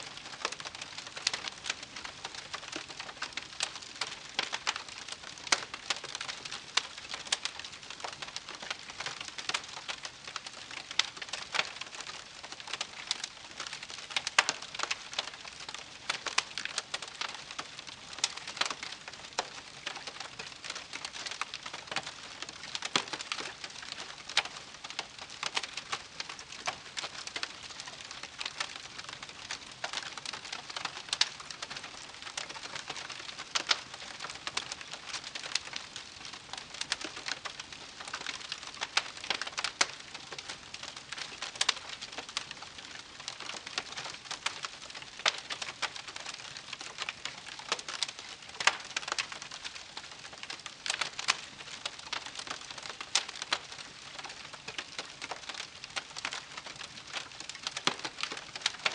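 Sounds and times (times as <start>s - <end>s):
soft hiss of burning: 0.0s - 58.9s
wood campfire crackling: 0.0s - 58.9s.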